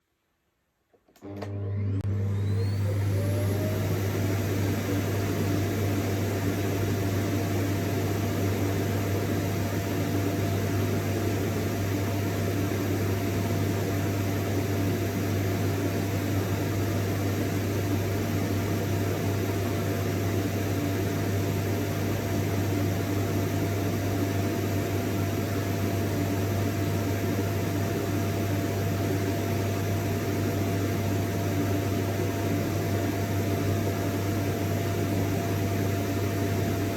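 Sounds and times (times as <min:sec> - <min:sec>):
vacuum cleaner running: 0:01.1 - 0:36.9.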